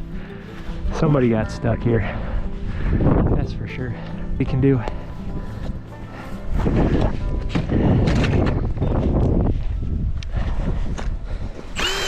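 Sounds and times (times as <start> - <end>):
music with held notes: 0.0 - 11.6.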